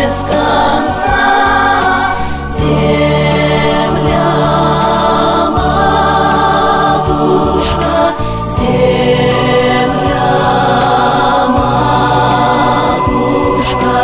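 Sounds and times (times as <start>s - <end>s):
choir singing sustained chords: 0.0s - 14.0s.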